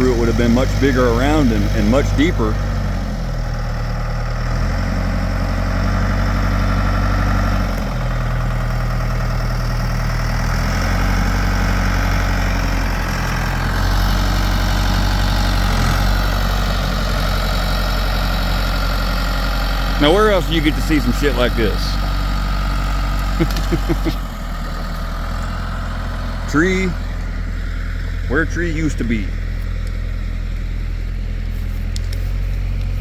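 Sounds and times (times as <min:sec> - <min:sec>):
large engine running: 0:00.0 - 0:33.0.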